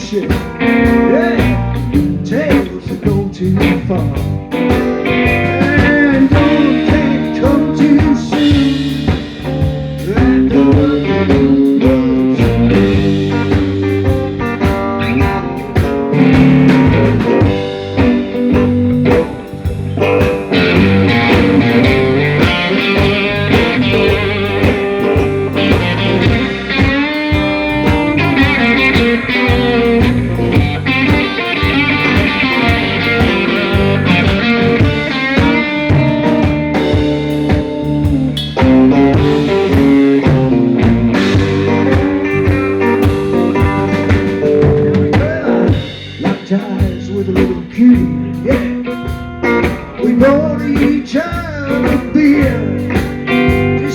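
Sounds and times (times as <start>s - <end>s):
blues-rock band playing: 0.0s - 53.9s
lead guitar: 0.0s - 53.9s.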